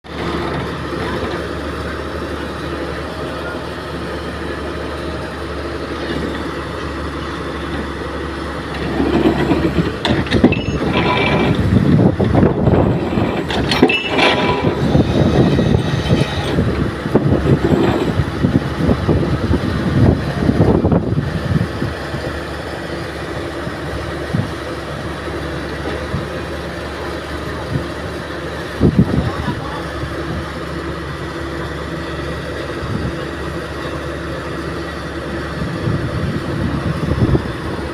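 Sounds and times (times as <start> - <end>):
pile driving rig engine running: 0.0 - 37.9.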